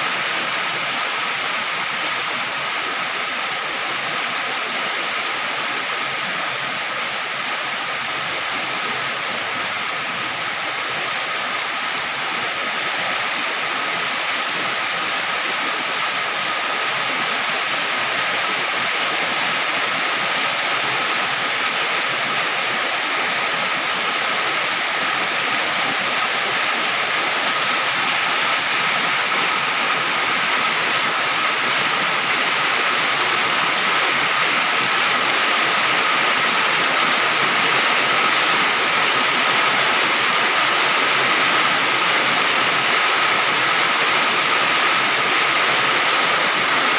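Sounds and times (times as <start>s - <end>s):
rain on a metal roof: 0.0s - 46.9s.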